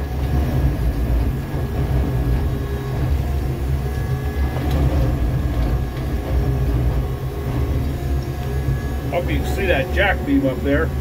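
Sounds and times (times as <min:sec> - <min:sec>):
machine engine and hydraulics droning: 0:00.0 - 0:11.0.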